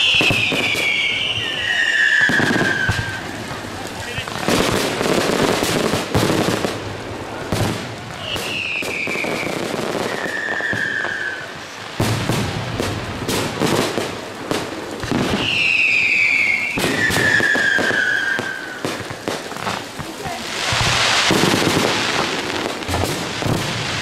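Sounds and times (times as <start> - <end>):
fireworks bangs and crackles: 0.0 - 24.0
fireworks falling whistles: 0.0 - 24.0.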